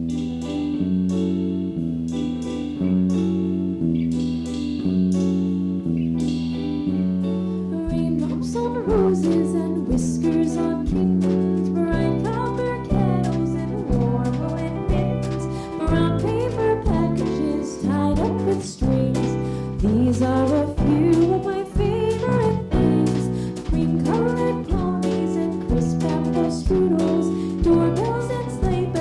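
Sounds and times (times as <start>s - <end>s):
guitar chords: 0.0s - 29.0s
piano chords: 0.0s - 29.0s
upright bass notes: 0.0s - 29.0s.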